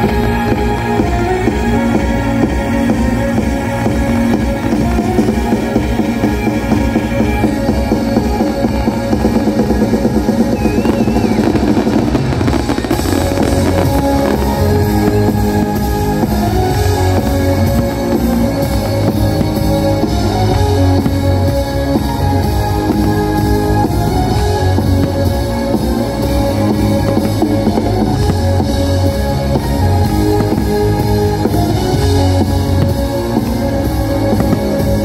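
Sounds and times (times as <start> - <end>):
loud rock music with drums: 0.0 - 35.0.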